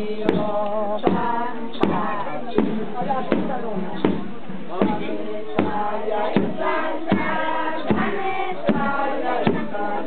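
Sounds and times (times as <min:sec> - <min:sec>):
group singing a chant: 0:00.0 - 0:10.0
steady struck beat: 0:00.1 - 0:10.0.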